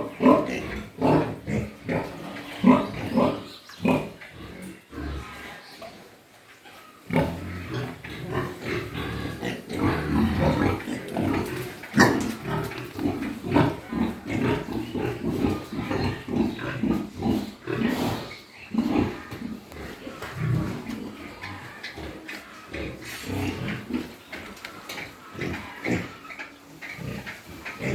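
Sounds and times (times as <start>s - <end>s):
pigs grunting and calling: 0.0s - 27.9s.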